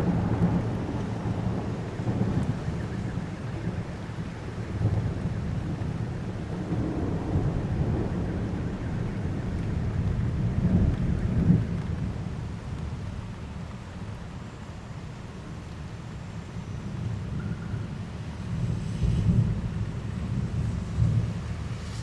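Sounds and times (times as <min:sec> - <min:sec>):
thunder rumbling: 0:00.0 - 0:13.7, 0:16.9 - 0:22.0
heavy rain: 0:00.0 - 0:22.0.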